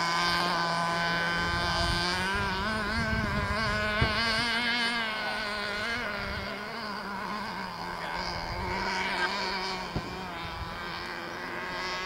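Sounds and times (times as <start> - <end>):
model boat engine whining: 0.0 - 12.0.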